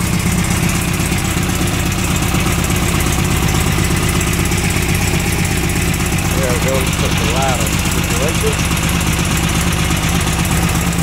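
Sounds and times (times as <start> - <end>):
air-cooled engine idling: 0.0 - 11.0.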